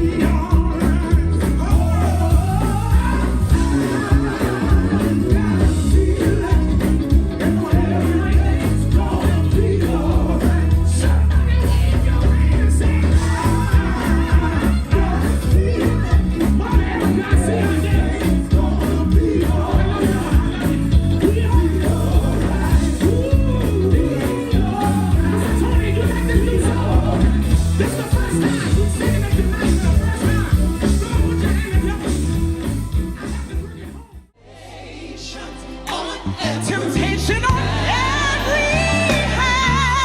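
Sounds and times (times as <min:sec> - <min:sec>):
heavy bass: 0:00.0 - 0:34.4, 0:35.3 - 0:40.0
live gospel music with singing: 0:00.0 - 0:40.0.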